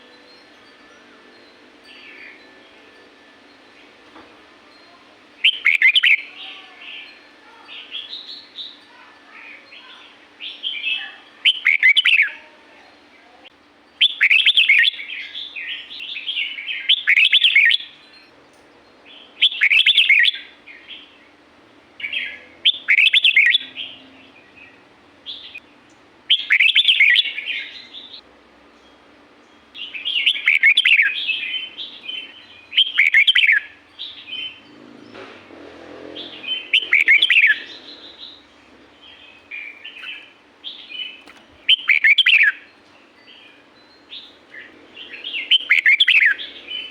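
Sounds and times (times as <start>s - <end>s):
bird warbling song: 5.4s - 12.4s, 14.0s - 18.3s, 19.0s - 21.4s, 22.0s - 35.3s, 36.0s - 46.9s
soft bird calls: 5.4s - 13.4s, 14.0s - 18.1s, 19.2s - 21.4s, 22.0s - 28.3s, 29.6s - 46.9s.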